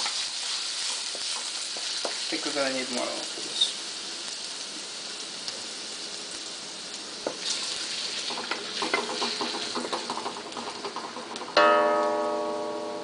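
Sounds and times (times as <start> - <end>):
oil ticking and crackling: 0.0 - 12.1
garlic and ginger sizzling: 0.0 - 13.0.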